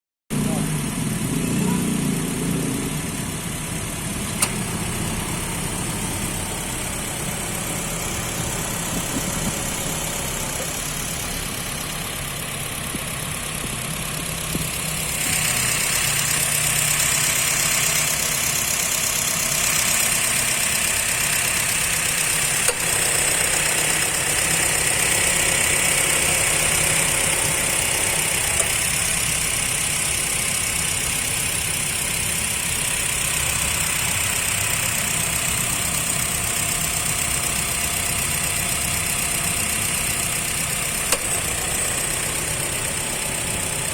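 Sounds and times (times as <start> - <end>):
car engine idling: 0.3 - 43.9.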